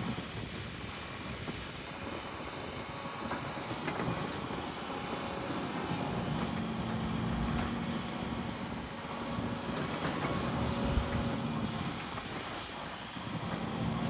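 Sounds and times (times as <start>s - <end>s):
low engine rumble with rattling: 0.0s - 14.0s
steady engine tone: 1.8s - 14.0s.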